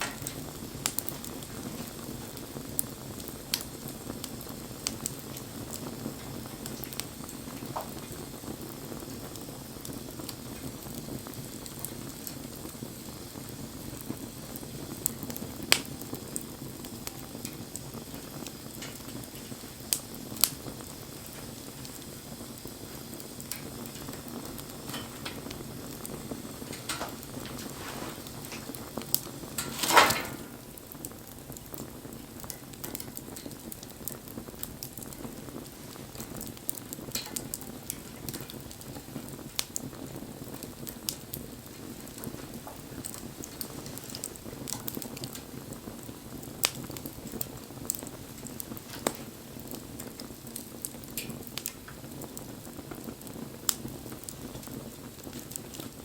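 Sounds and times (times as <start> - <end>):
bonfire hissing: 0.0 - 56.0
fire crackling and popping: 0.0 - 56.0.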